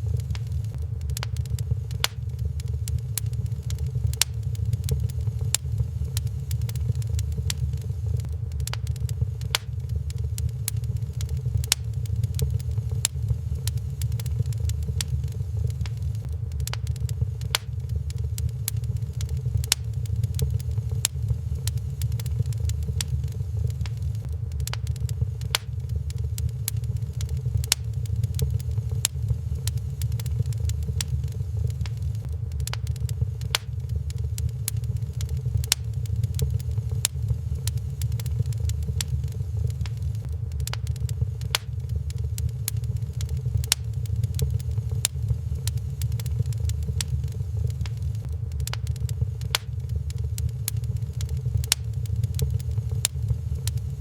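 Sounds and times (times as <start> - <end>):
fire low rumble: 0.0 - 54.0
wood fire crackling: 0.0 - 54.0.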